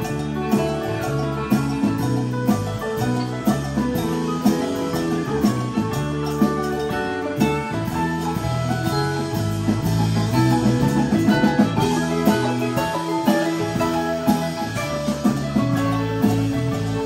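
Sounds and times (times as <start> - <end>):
bass guitar: 0.0 - 17.0
congas: 0.0 - 17.0
drum kit: 0.0 - 17.0
electric guitar: 0.0 - 17.0
keyboard: 0.0 - 17.0.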